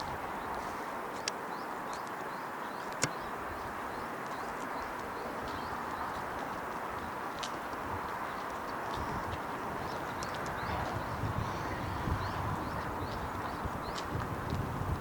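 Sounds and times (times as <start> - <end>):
small birds chirping: 0.3 - 14.2.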